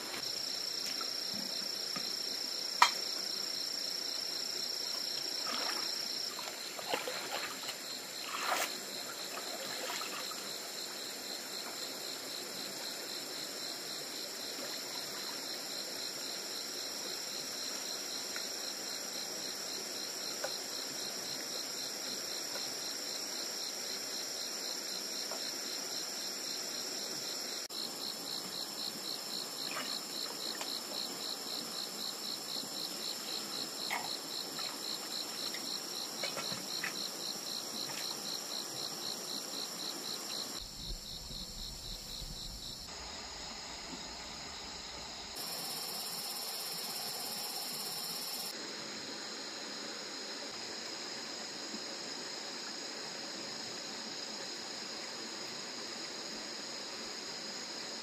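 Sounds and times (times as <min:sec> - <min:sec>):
crickets trilling: 0:00.0 - 0:54.9
rapid pulsing insect chirp: 0:00.0 - 0:58.0.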